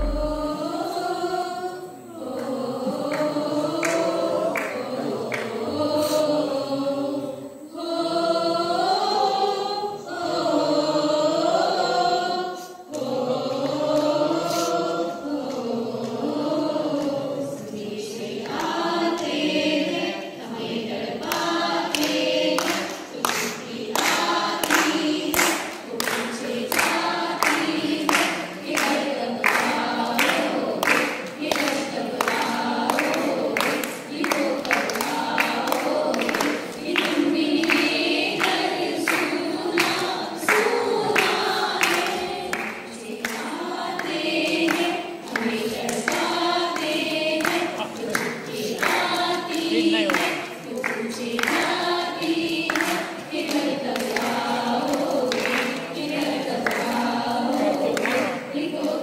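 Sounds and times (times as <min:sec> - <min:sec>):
steady hand claps: 0:00.0 - 0:01.1, 0:02.2 - 0:06.2, 0:12.9 - 0:59.0
group of voices singing: 0:00.0 - 0:59.0.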